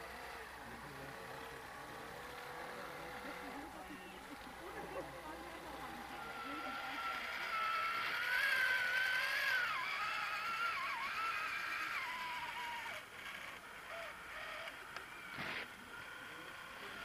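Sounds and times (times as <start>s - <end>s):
model truck motor whining: 0.0s - 17.0s.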